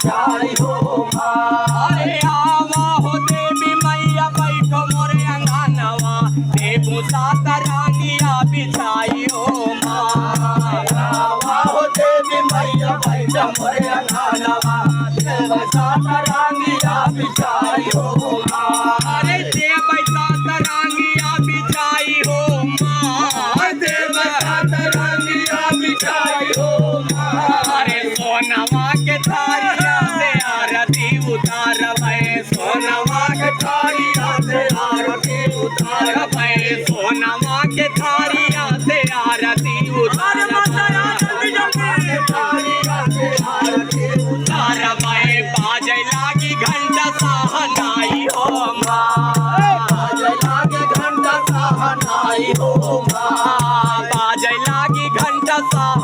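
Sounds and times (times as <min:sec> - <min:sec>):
jingling rattling percussion: 0:00.0 - 0:56.0.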